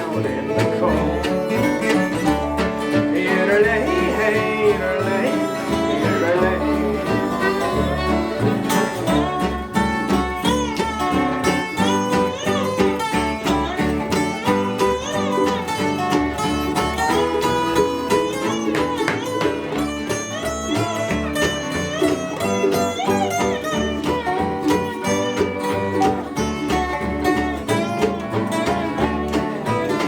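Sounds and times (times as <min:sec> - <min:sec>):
fiddle melody: 0:00.0 - 0:30.0
steady beat: 0:00.0 - 0:30.0
strummed acoustic guitar: 0:00.0 - 0:30.0.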